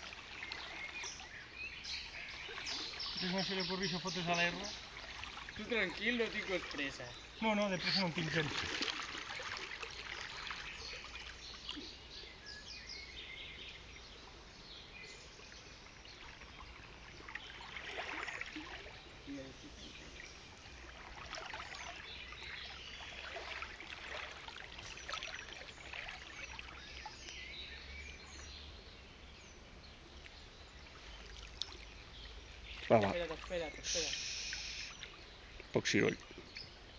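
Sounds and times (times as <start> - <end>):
bird calls: 0.0 - 36.9
river water running: 0.0 - 36.9.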